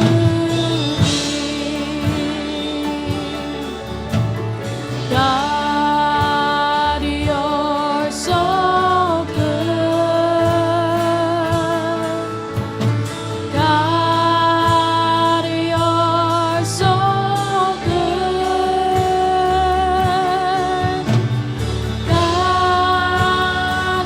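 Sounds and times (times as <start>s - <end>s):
sustained bass: 0.0s - 24.0s.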